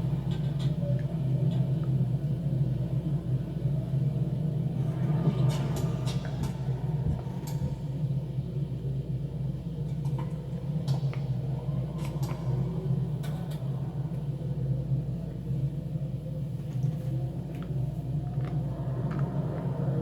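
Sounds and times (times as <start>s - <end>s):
low rumbling ambience: 0.0s - 20.0s.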